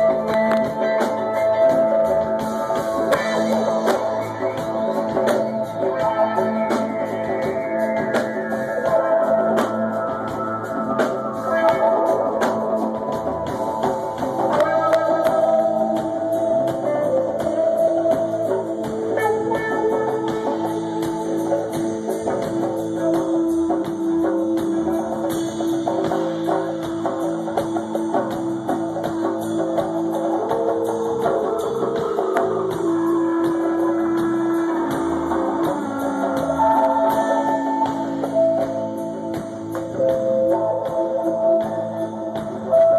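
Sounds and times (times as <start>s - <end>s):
drums: 0.0s - 42.9s
electric guitar: 0.0s - 42.9s
keyboard: 0.0s - 42.9s.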